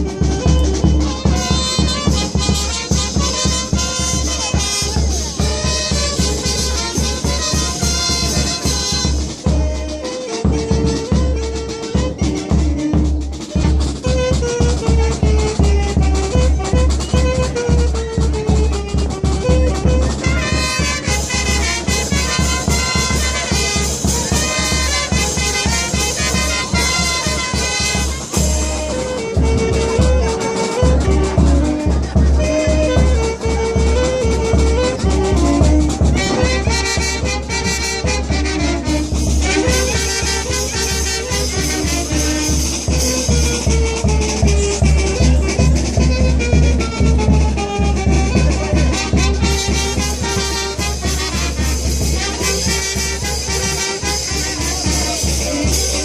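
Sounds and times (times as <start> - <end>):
bass drum beat: 0.0 - 30.2, 31.0 - 55.8
brass band playing: 0.0 - 56.0.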